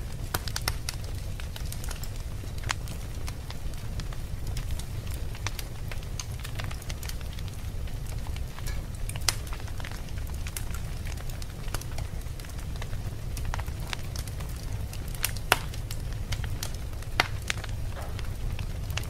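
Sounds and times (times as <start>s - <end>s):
fire crackling and roaring: 0.0s - 19.0s.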